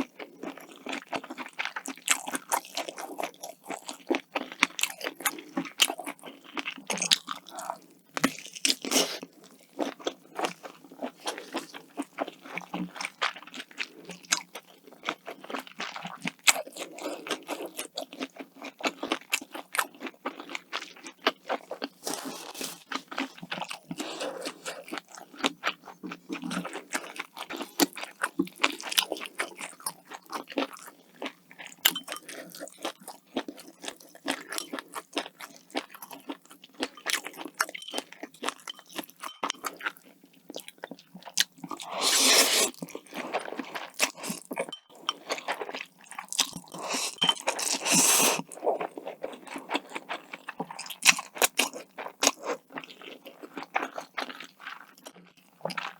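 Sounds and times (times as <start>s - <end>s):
crisp crunching and chewing: 0.0s - 55.9s.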